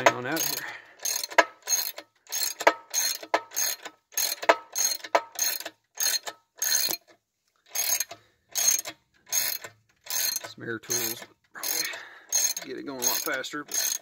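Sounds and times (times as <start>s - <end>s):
ratchet wrench clicking: 0.0s - 7.1s, 7.7s - 14.0s.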